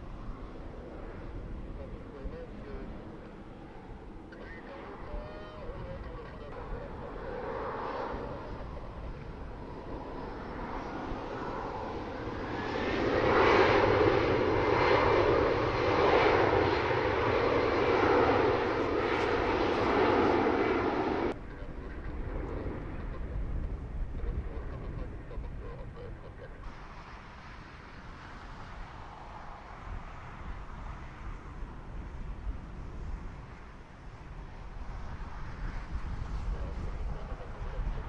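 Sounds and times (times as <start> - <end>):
jet engines at taxi power: 0.0 - 38.0.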